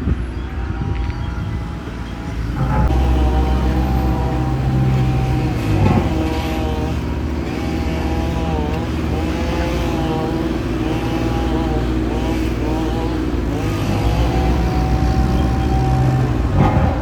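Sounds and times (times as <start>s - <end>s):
heavy engine rumbling: 0.0s - 17.0s
wavering high tone: 0.0s - 17.0s.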